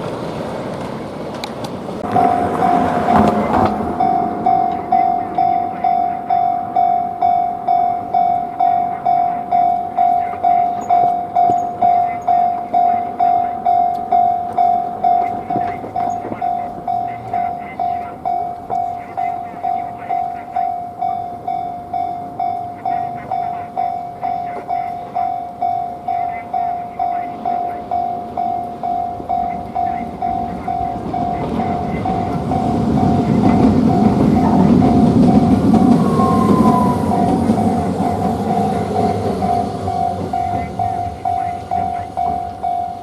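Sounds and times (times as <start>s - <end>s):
level-crossing bell ringing: 2.0s - 43.0s.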